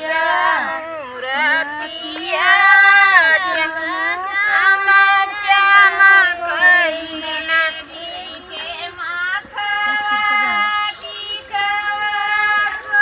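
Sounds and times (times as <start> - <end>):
women singing folk song: 0.0 - 13.0.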